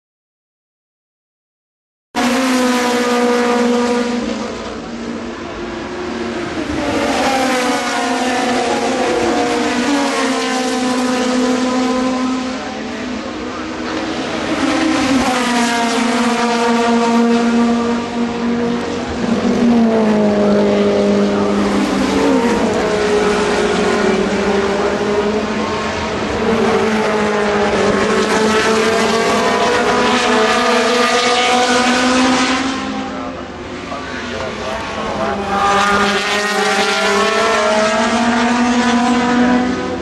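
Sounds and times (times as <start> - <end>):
racing car engines: 2.2 - 40.0.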